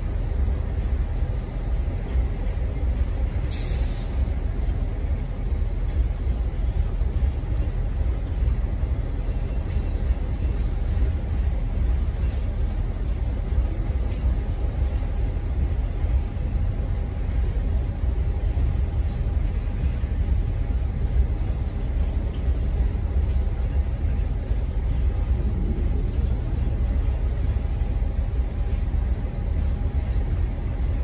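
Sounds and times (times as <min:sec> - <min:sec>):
freight train cars rolling: 0:00.0 - 0:31.0.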